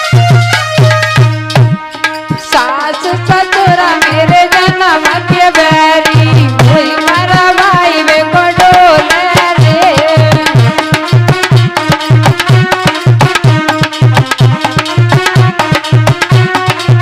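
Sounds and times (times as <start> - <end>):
fast hand drum rhythm: 0.0 - 17.0.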